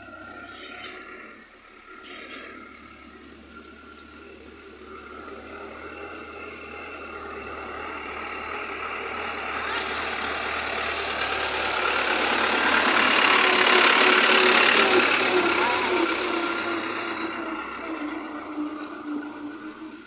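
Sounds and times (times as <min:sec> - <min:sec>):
diesel tractor engine approaching: 0:00.0 - 0:20.0.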